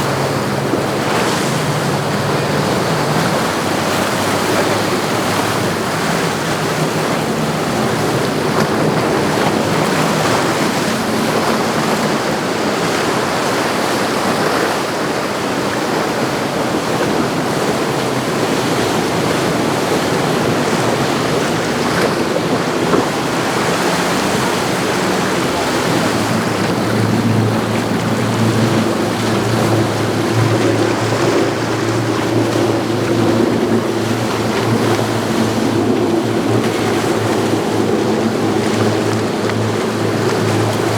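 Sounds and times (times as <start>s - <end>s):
boat engines droning: 0.0s - 40.9s
water washing: 0.0s - 40.9s
wind on microphone: 0.0s - 40.9s.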